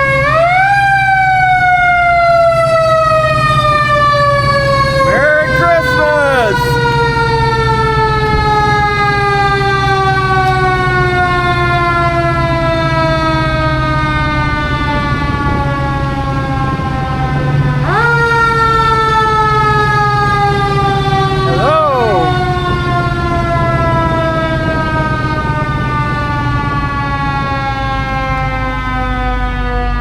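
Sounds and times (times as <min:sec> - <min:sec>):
fire engine siren: 0:00.0 - 0:30.0.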